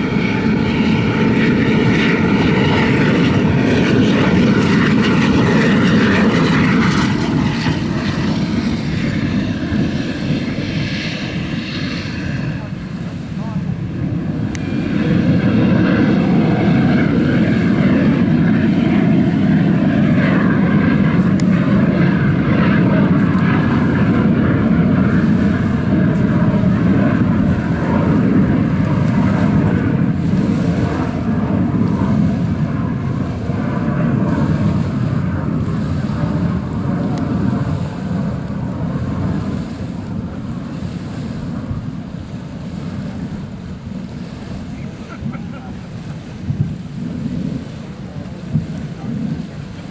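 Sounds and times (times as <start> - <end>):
jetboat jet engine running: 0.0 - 49.9.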